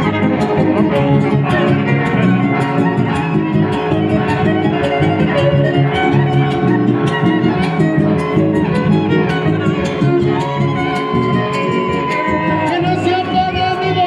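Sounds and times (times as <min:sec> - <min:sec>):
strummed guitars: 0:00.0 - 0:14.0
violin melody: 0:00.0 - 0:14.0.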